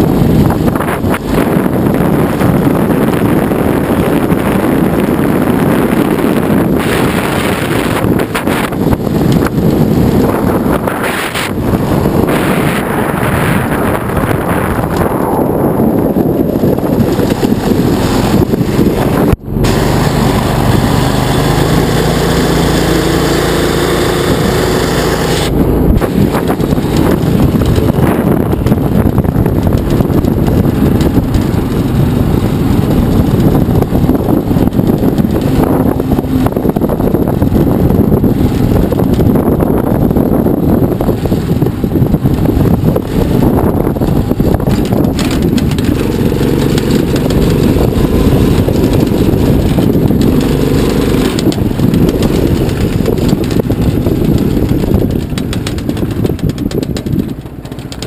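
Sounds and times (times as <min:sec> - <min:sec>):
go-kart engine running: 0:00.0 - 0:58.0
wind buffeting microphone: 0:00.0 - 0:58.0.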